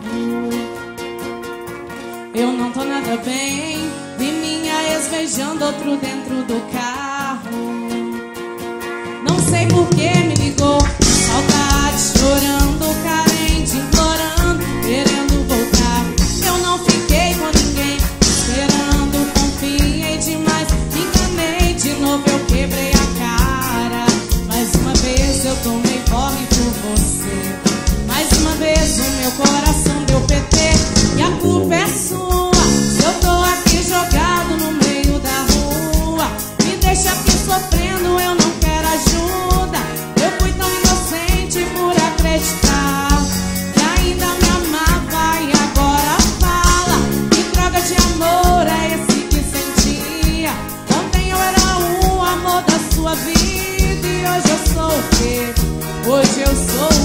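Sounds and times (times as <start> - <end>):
electric guitar: 0.0 - 57.0
live band playing upbeat music: 0.0 - 57.0
person singing: 2.4 - 7.8, 9.2 - 57.0
drum kit beat: 9.2 - 57.0.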